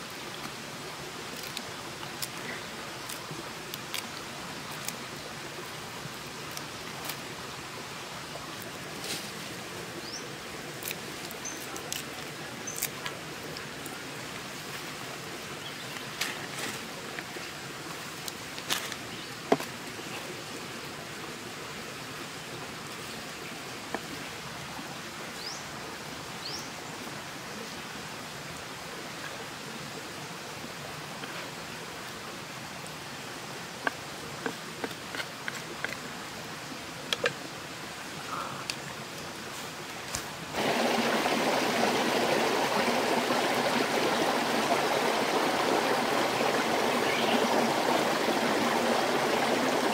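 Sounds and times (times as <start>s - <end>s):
faint steady hiss: 0.0s - 49.9s
stream rushing over rocks: 0.0s - 49.9s.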